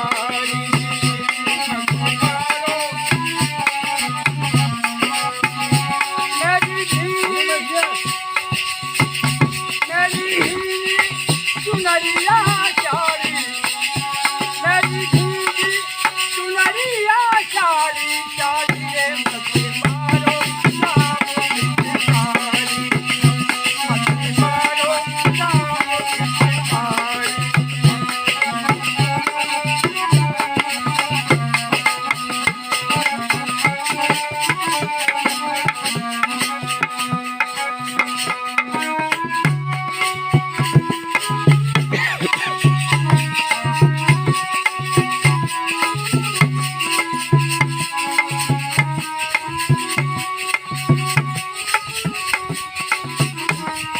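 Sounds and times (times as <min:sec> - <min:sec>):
hand drum rhythm: 0:00.0 - 0:53.9
instrumental melody: 0:00.0 - 0:53.9.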